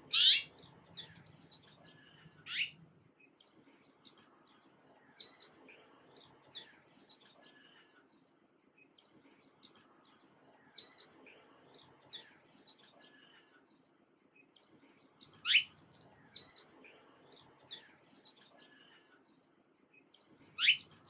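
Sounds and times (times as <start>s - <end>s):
small birds chirping: 0.0s - 13.4s, 14.3s - 21.0s.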